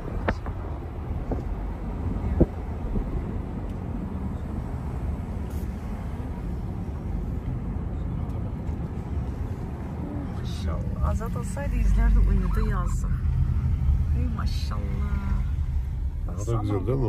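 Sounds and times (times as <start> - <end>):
engine and road rumble in car: 0.0 - 17.0.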